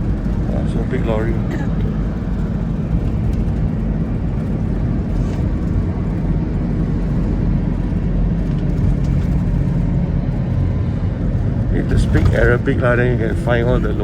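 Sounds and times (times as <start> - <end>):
engine and road rumble: 0.0 - 14.0.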